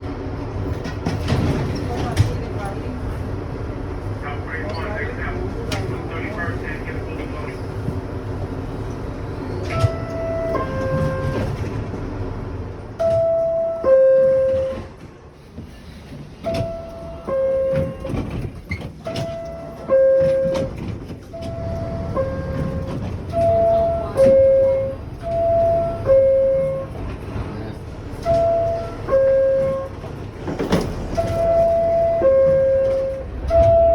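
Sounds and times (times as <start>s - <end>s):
train rumble: 0.0s - 33.9s.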